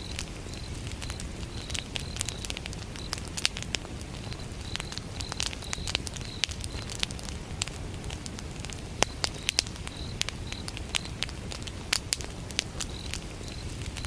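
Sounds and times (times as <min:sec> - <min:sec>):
crickets chirping: 0:00.0 - 0:07.4, 0:08.1 - 0:11.7, 0:12.6 - 0:14.0
wood fire crackling: 0:00.0 - 0:14.0.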